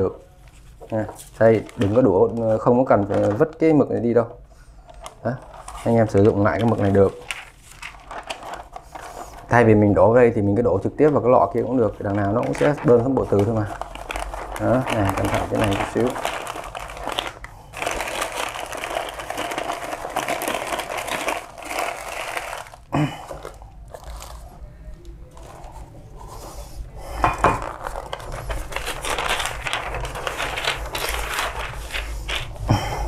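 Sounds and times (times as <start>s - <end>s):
plastic scraping and crinkling: 0.4s - 3.7s, 4.9s - 9.6s, 11.6s - 26.4s, 27.4s - 32.7s.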